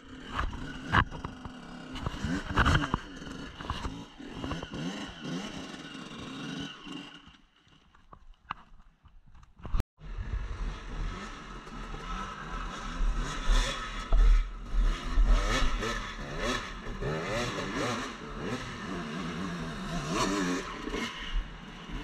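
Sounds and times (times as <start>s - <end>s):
dirt bike engines revving: 0.0s - 7.4s, 10.0s - 22.0s.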